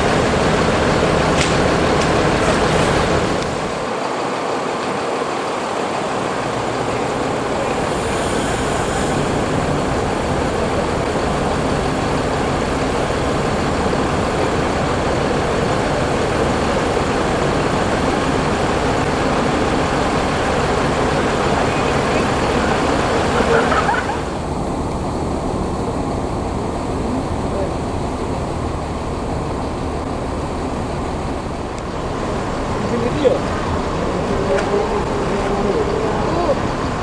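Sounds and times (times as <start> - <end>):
vehicle engine and road rumble: 0.0 - 37.0.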